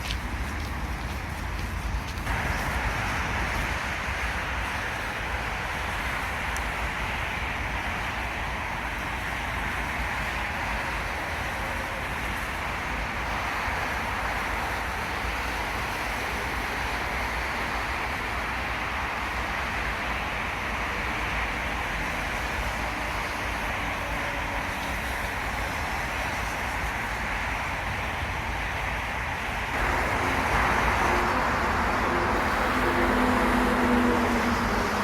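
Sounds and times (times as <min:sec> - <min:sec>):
distant road traffic hum: 0:00.0 - 0:35.0.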